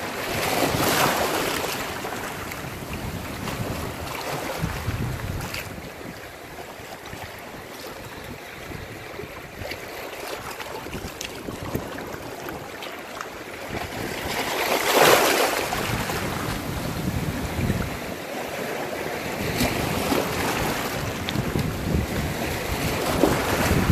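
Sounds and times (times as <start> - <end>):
surf breaking on rocks: 0.0 - 23.9
wind buffeting microphone: 0.0 - 23.9.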